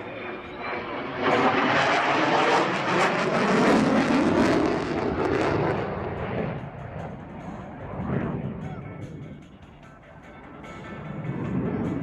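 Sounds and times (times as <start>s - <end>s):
fighter jet engine roar: 0.0s - 12.0s.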